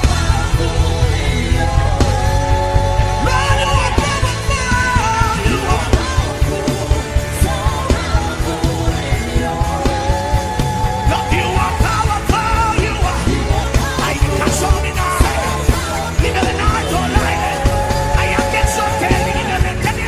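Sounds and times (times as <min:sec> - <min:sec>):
held chords over low beat: 0:00.0 - 0:20.0.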